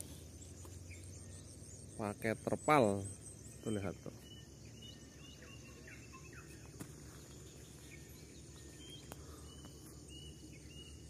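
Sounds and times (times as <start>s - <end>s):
birds chirping and whistling: 0.0s - 11.0s
high insect drone: 0.0s - 11.0s.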